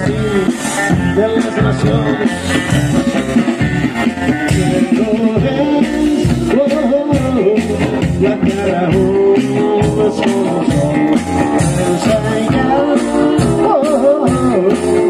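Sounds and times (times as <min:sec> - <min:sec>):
electric guitar: 0:00.0 - 0:15.0
live rock and roll band: 0:00.0 - 0:15.0
upright double bass: 0:00.0 - 0:15.0.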